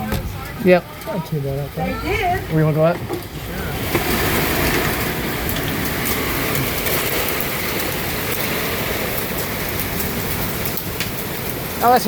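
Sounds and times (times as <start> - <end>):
hail ticking: 0.0 - 12.0
heavy rain pouring: 0.0 - 12.0.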